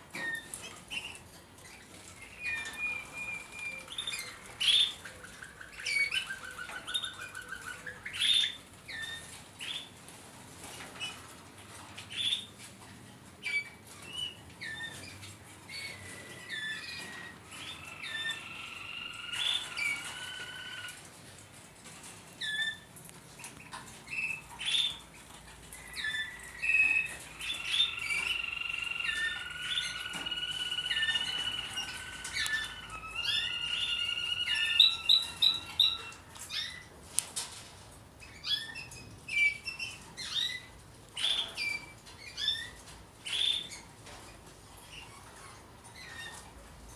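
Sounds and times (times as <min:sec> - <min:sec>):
canaries chirping and singing: 0:00.1 - 0:46.9.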